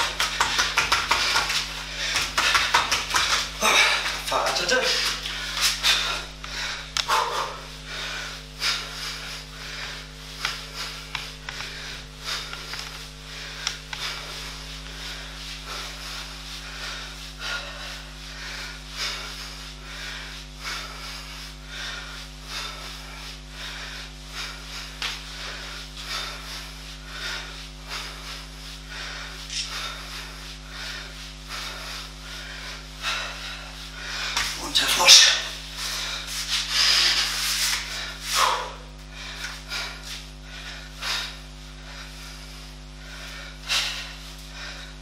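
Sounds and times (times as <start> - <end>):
low electrical hum: 0.0 - 45.0
man breathing hard: 0.0 - 45.0.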